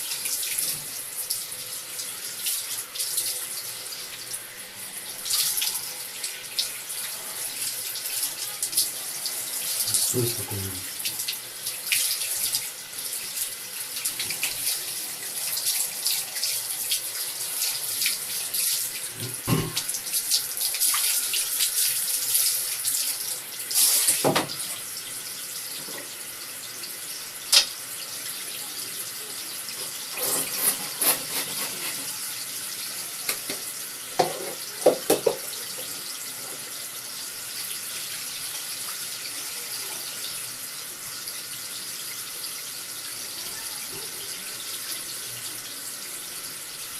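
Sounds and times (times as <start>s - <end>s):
tap water running into a sink: 0.0s - 46.9s.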